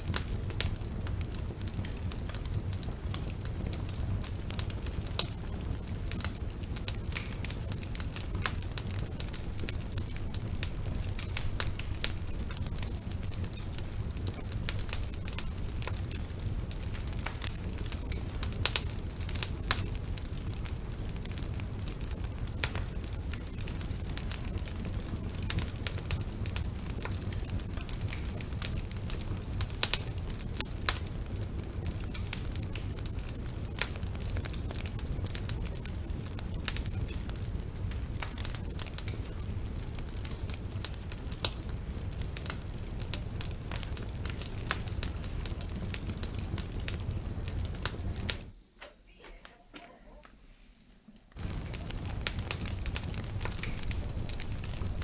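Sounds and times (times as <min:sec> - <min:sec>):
fire low rumble: 0:00.0 - 0:48.6, 0:51.4 - 0:55.0
wood fire crackling and popping: 0:00.0 - 0:48.6, 0:51.3 - 0:55.0.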